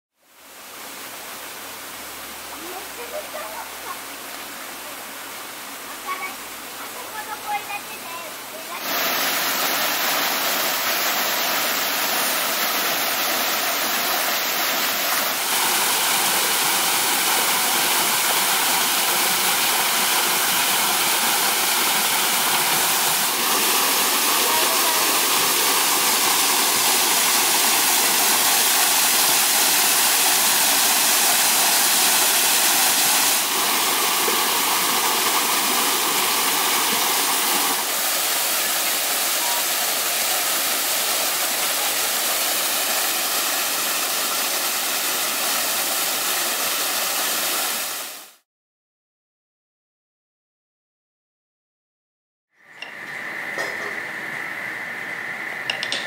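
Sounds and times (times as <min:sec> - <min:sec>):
waterfall splashing into pond: 0:00.2 - 0:48.4, 0:55.6 - 0:56.0.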